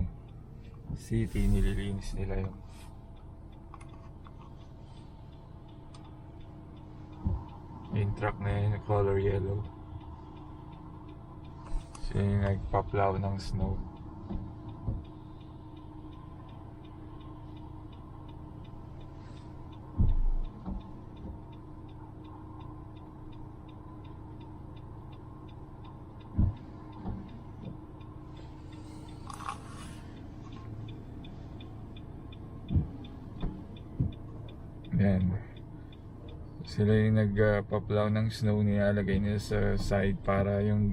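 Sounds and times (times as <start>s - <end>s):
car engine and road hum: 0.0s - 40.9s.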